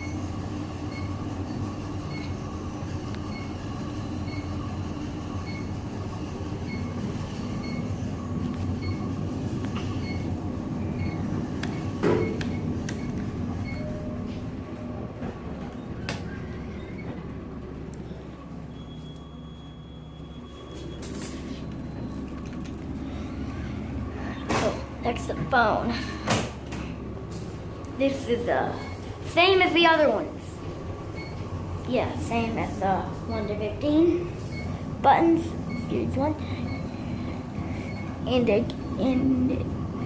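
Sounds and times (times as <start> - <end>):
elevator cab hum: 0.0 - 40.0
high fan chirp: 0.0 - 40.0
ventilation fan rumbling: 0.0 - 40.0.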